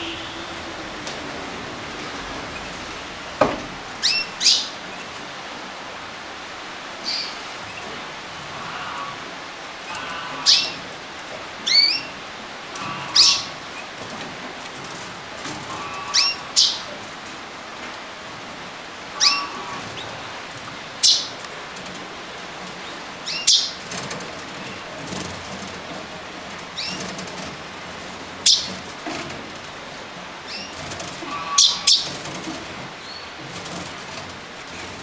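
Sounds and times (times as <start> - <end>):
canaries chirping: 0.0 - 1.5, 2.2 - 5.2, 6.9 - 17.1, 19.0 - 26.1, 26.7 - 27.5, 28.1 - 35.0.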